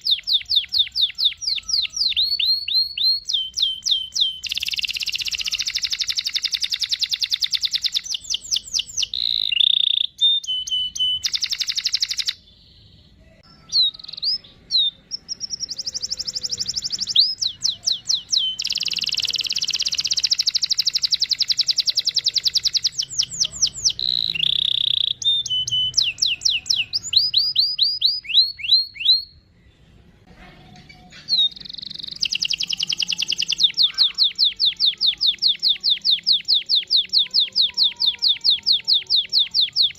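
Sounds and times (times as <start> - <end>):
canary singing trills: 0.0 - 30.0, 30.7 - 39.9.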